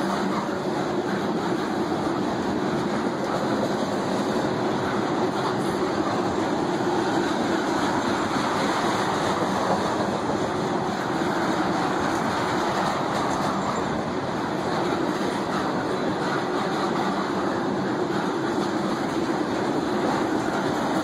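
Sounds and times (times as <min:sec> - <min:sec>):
train wheels rumbling and rattling: 0:00.0 - 0:21.0.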